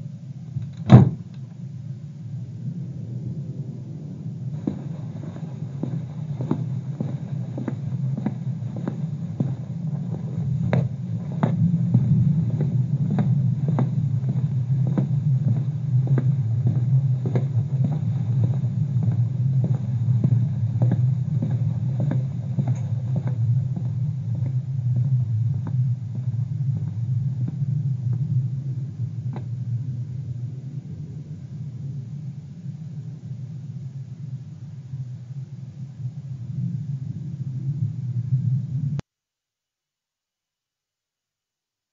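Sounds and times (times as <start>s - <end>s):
low rumbling drone: 0.0s - 39.0s.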